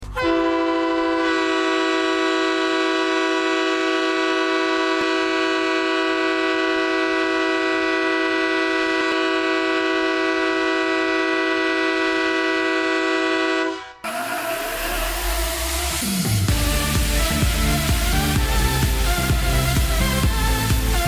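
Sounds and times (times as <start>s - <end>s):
goal horn blast: 0.0s - 21.0s.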